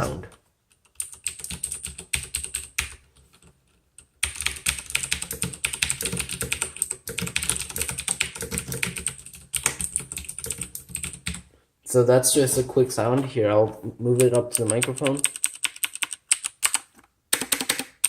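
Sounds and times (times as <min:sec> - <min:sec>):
clicky mechanical keyboard typing: 0:00.7 - 0:11.4, 0:14.2 - 0:18.0.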